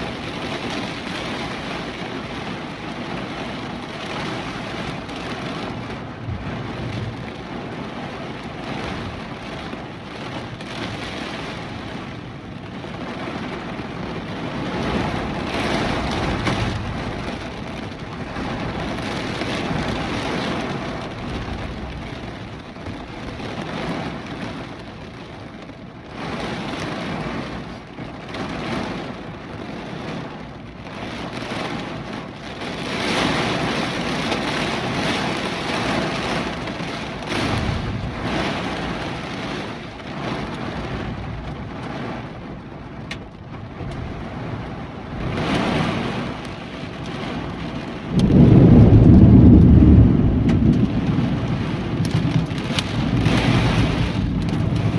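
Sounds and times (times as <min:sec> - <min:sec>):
gusting wind: 0:00.0 - 0:54.9
heavy rain: 0:00.0 - 0:54.9.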